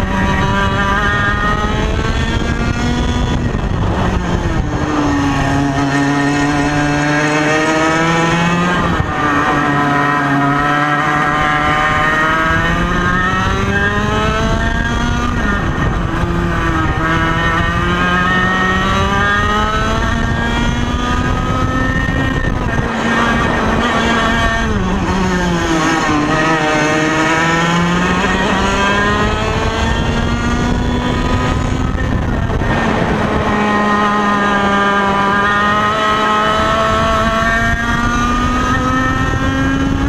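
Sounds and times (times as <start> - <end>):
kart engine at high revs: 0.0 - 40.0.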